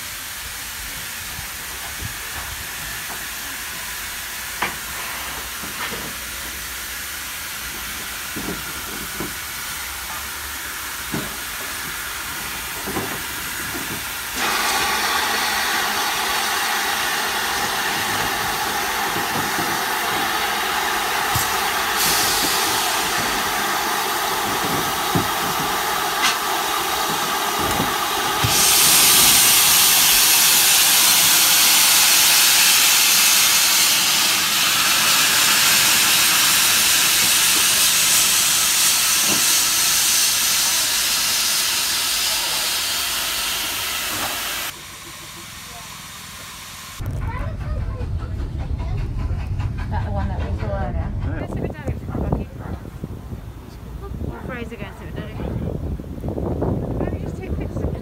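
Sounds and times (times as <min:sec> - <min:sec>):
higher louder steam hiss: 0:00.0 - 0:55.2
steam hissing: 0:00.0 - 0:58.0.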